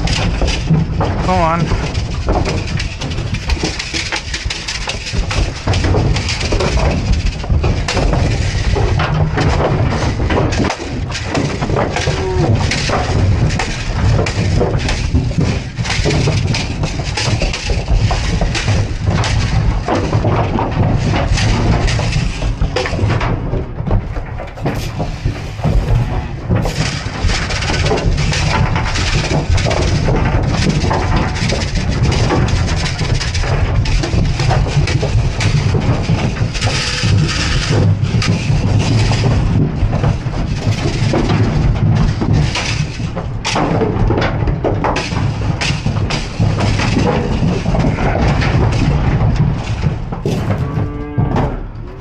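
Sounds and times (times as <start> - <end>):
cattle knocking in trailer: 0.0 - 52.0
rattle paddle rattling: 0.0 - 52.0.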